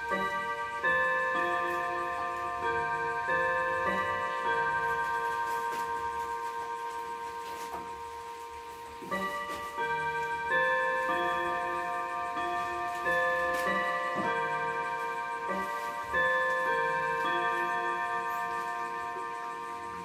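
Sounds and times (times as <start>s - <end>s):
clock chime rods ringing: 0.0s - 20.0s.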